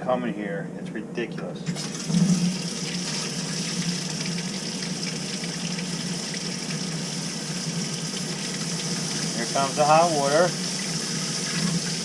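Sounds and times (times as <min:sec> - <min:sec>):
faucet running into sink: 0:01.7 - 0:12.0.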